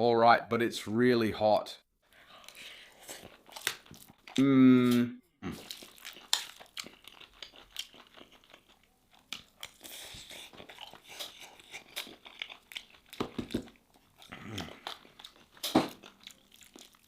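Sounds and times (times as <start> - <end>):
person chewing food: 2.1 - 17.0.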